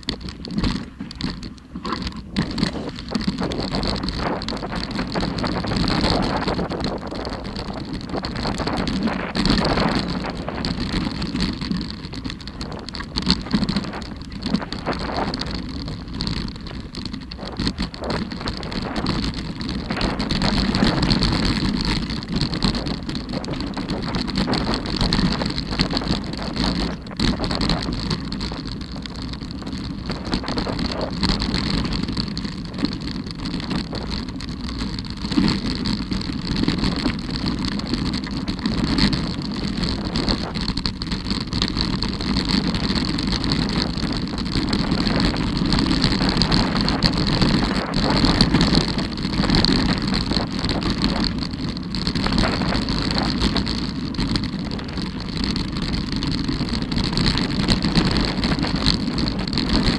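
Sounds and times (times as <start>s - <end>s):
bike rattling and knocking: 0.0s - 59.9s
bike tyres crunching over dirt: 0.0s - 59.9s.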